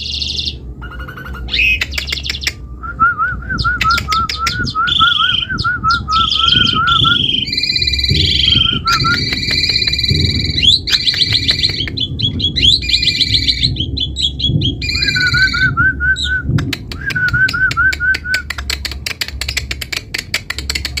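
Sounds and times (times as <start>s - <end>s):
sharp bird clicks: 0.0s - 2.6s, 3.6s - 15.6s, 16.2s - 21.0s
starling singing: 0.0s - 21.0s.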